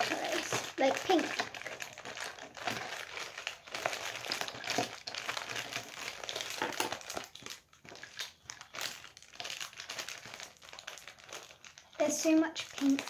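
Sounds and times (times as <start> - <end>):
glitter pots rummaged: 0.0 - 13.0
plastic bag crinkling: 0.0 - 13.0.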